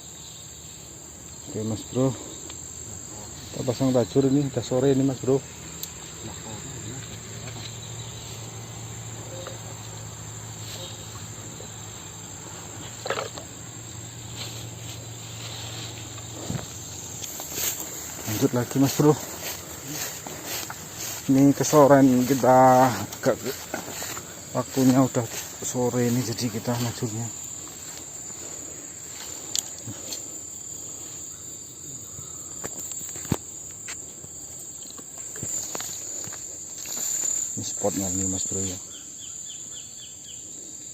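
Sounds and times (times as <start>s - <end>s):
insect chorus: 0.0s - 40.9s.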